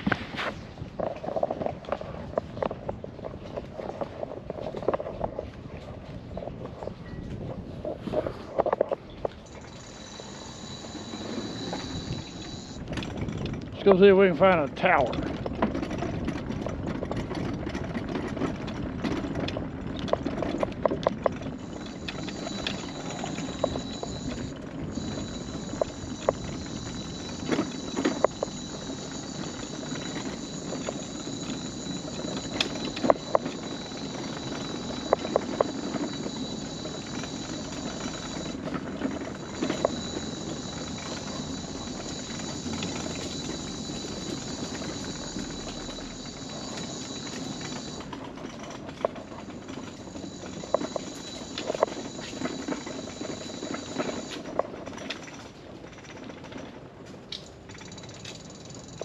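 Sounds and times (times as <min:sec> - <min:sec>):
mobility scooter hum and whine: 0:00.0 - 0:59.0
wheels knocking over planks: 0:08.6 - 0:59.0.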